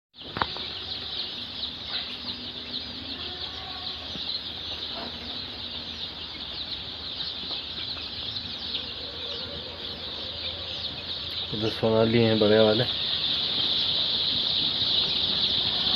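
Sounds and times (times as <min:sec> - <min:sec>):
chicks peeping: 0:00.2 - 0:15.9
low chicken cluck: 0:00.2 - 0:15.9.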